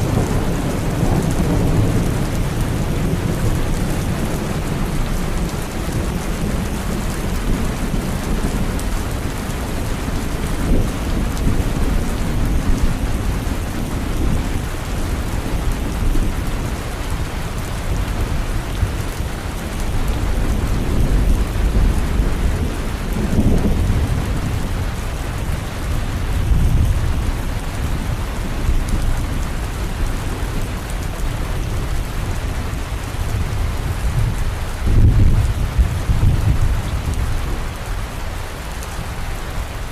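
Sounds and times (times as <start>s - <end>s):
heavy rain: 0.0s - 39.9s
thunder rumbling: 0.0s - 39.9s.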